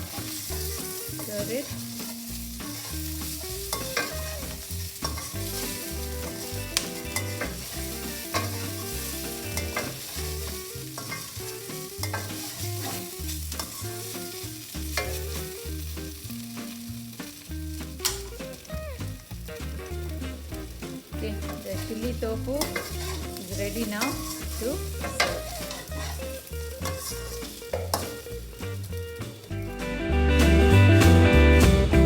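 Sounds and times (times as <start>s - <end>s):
utensil clicking against pan: 0.0s - 28.8s
spatula scraping a pan: 0.0s - 29.5s
food sizzling in a pan: 0.0s - 29.7s
quiet low background music: 0.0s - 32.0s.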